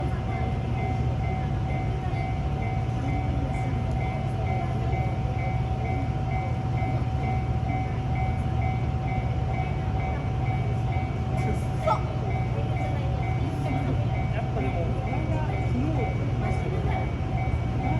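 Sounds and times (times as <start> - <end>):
level crossing warning bell: 0.0 - 17.9.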